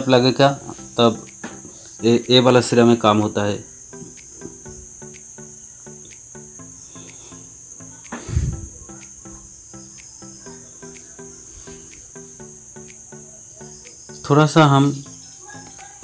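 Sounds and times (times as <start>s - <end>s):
crickets chirring: 0.0s - 16.0s
soft background music: 0.0s - 16.0s.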